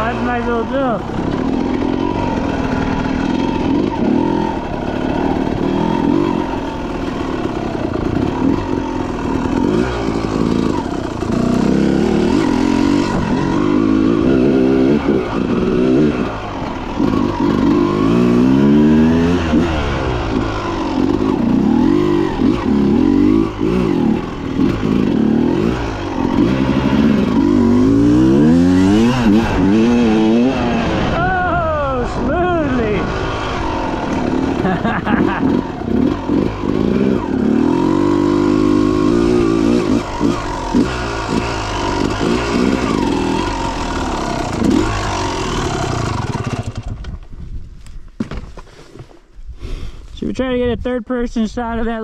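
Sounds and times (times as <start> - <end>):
dirt bike engine revving: 0.0 - 47.1.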